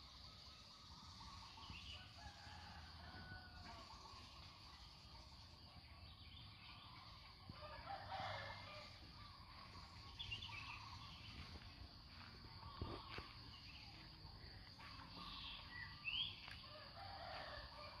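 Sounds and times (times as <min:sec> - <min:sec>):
birds chirping: 0:00.0 - 0:18.0
insects buzzing: 0:00.0 - 0:18.0.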